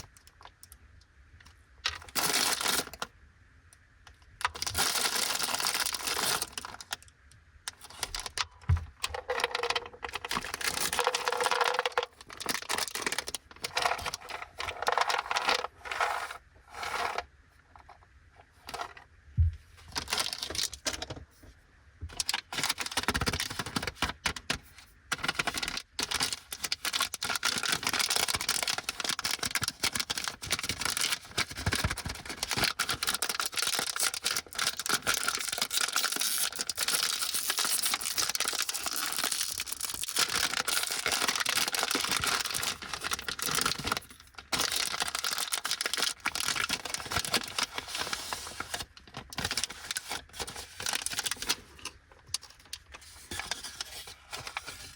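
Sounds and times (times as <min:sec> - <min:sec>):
packaging clicks and rattles: 0:01.9 - 0:03.1, 0:04.4 - 0:07.1, 0:07.7 - 0:16.3, 0:19.9 - 0:21.2, 0:22.1 - 0:54.9
plastic wrappers crinkling and tearing: 0:01.9 - 0:03.1, 0:04.4 - 0:07.1, 0:07.7 - 0:16.0, 0:19.9 - 0:21.1, 0:22.1 - 0:54.9.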